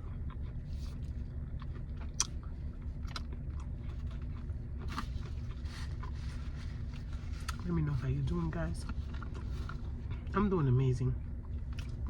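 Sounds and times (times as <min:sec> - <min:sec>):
chewing and crunching food: 0:00.0 - 0:12.0
steady low hum: 0:00.0 - 0:12.0.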